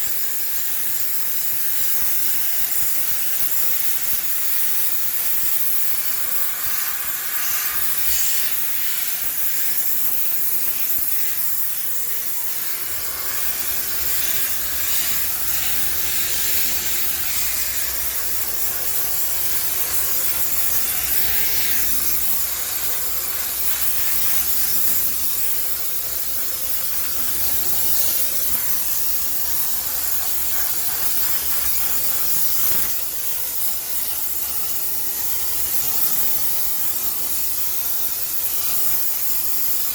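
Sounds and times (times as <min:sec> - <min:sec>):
steam cleaner hissing: 0:00.1 - 0:39.9.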